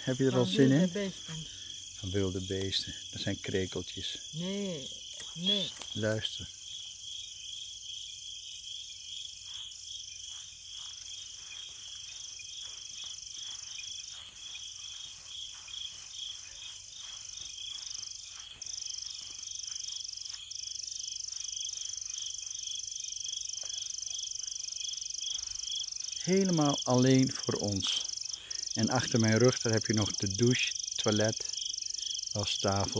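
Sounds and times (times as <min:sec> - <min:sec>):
crickets chirping: 0:00.0 - 0:32.9
high-pitched insect trill: 0:00.0 - 0:32.9.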